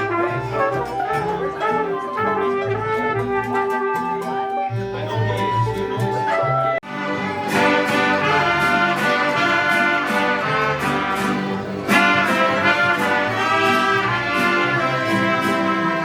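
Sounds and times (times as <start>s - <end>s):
mariachi music with trumpets: 0.0s - 16.0s.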